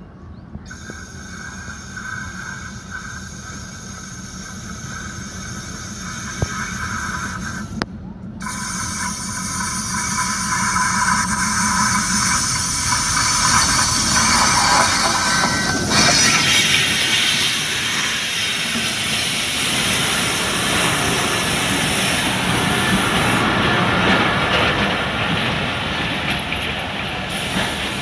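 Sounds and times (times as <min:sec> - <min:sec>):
diesel locomotive engine: 0:00.0 - 0:28.0
rail noise: 0:00.0 - 0:28.0.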